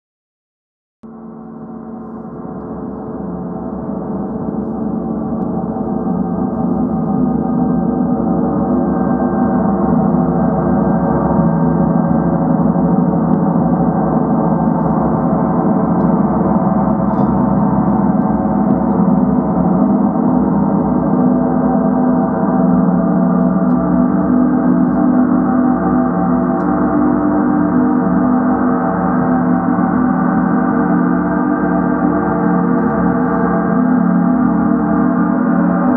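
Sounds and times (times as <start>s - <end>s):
large gongs ringing: 1.1s - 35.9s.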